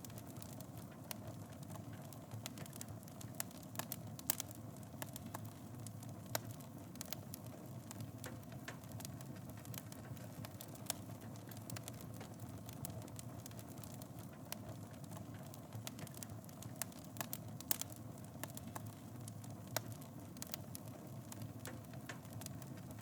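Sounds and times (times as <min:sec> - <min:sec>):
fire popping and snapping: 0:00.0 - 0:23.0
low rustle of flames: 0:00.0 - 0:23.0.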